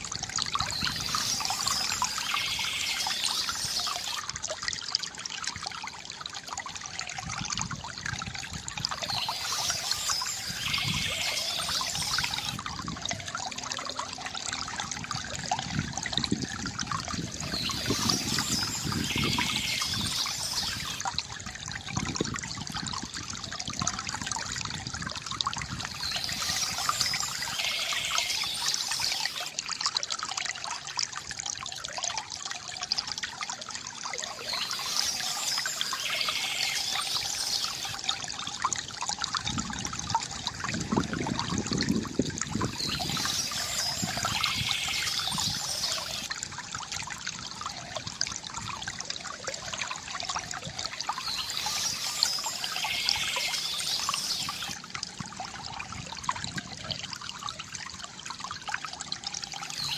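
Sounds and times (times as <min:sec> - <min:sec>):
fountain water trickling and splashing: 0:00.0 - 0:59.9.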